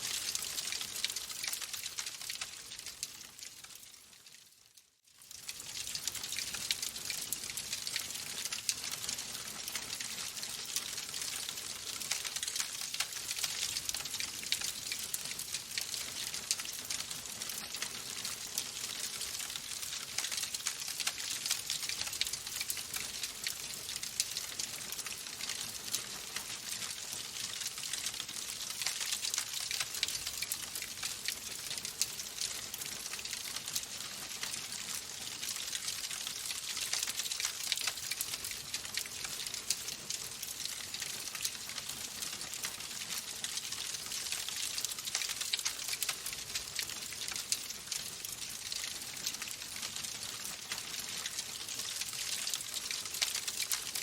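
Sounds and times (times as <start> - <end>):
wood fire crackling: 0.0 - 4.4, 5.2 - 54.0.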